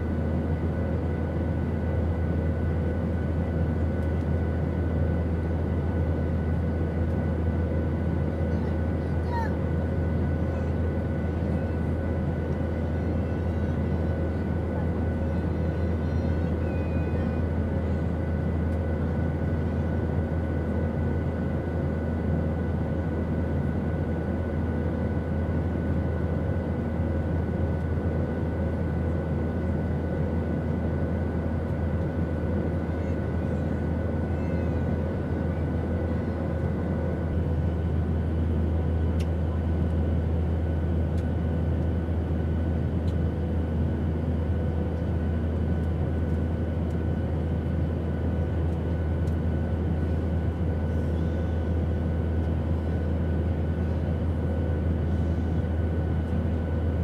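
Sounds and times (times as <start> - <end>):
airplane rumble with hiss: 0.0 - 57.0.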